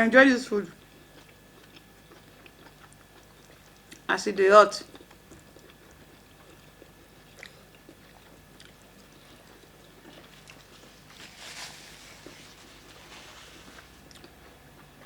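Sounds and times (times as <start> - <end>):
people chewing food: 0.7 - 4.2, 4.8 - 15.0.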